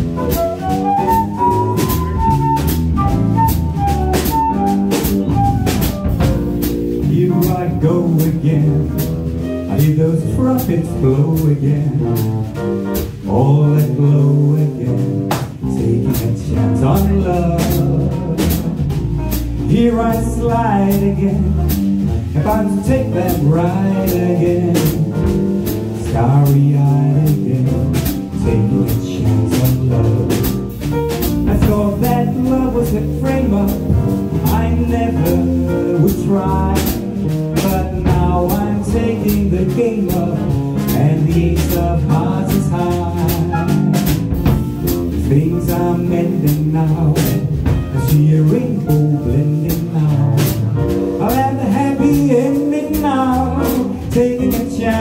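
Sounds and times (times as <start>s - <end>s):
jazz band playing: 0.0s - 55.0s.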